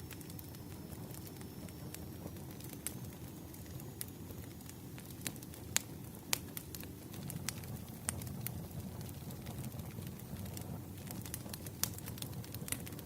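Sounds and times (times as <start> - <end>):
firewood crackling and popping: 0.0 - 13.0
low rumble of flames: 0.0 - 13.0.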